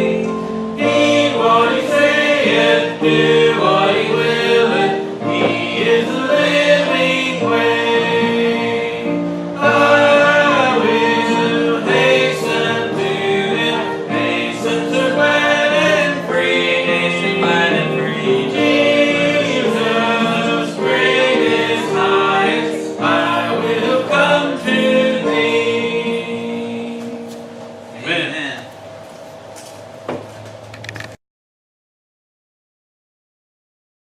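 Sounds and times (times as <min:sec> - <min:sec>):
congregation singing a hymn: 0:00.0 - 0:28.1
instrumental accompaniment: 0:00.0 - 0:31.1.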